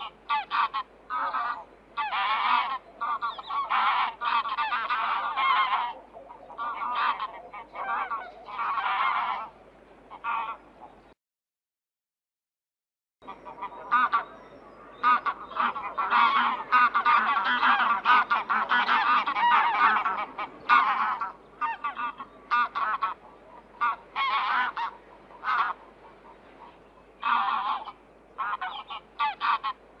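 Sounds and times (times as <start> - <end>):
geese honking: 0.0 - 10.9, 13.2 - 30.0.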